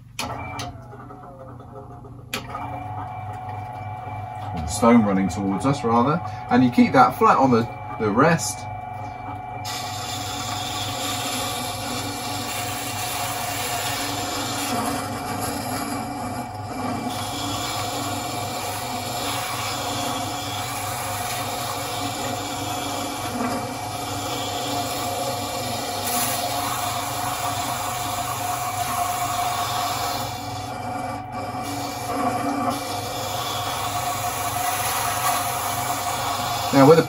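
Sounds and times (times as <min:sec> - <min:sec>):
wet-stone sharpener running: 0:00.2 - 0:37.0.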